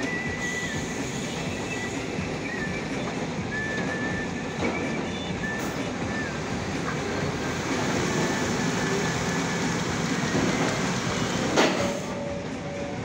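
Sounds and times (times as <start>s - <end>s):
truck diesel engine labouring: 0.0s - 13.0s.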